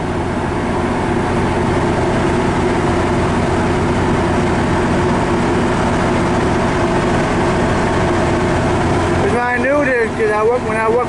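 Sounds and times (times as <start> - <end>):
diesel locomotive engine hum: 0.0 - 11.0.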